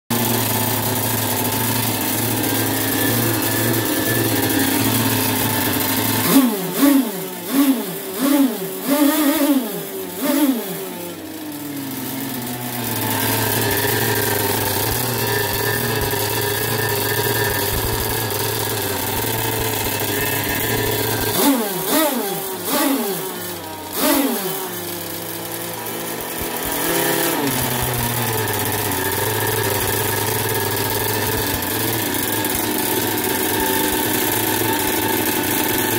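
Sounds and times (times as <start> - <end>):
two-stroke engine idling and revving: 0.0 - 35.9.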